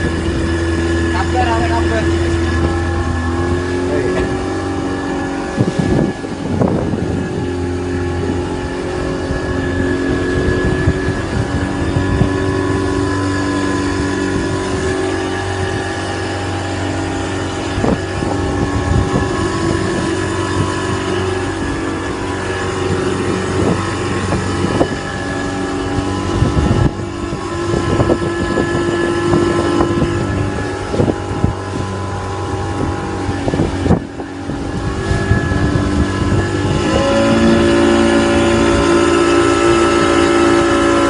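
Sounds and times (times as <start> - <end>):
boat engine running: 0.0 - 41.0
wind buffeting microphone: 0.0 - 41.0.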